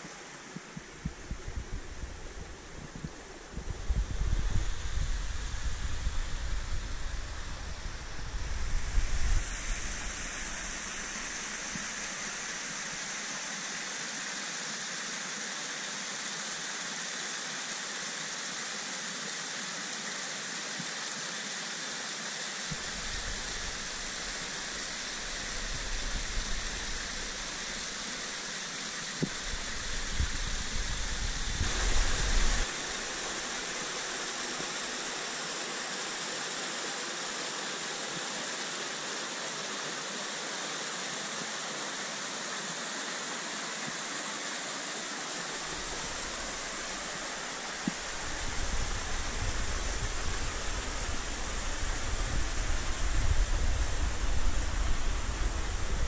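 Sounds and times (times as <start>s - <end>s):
waterfall and stream over rocks: 0.0s - 56.0s.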